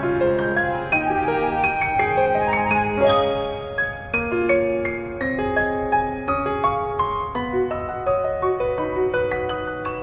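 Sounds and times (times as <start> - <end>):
soft piano melody: 0.0 - 10.0.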